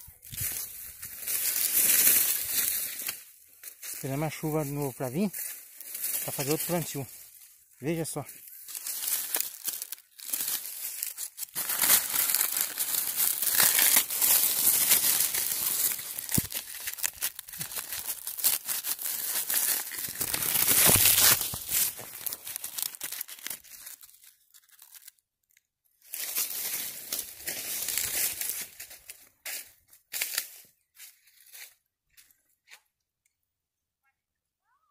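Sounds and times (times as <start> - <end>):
dry corn leaves rustling: 0.0 - 25.2, 26.0 - 32.3.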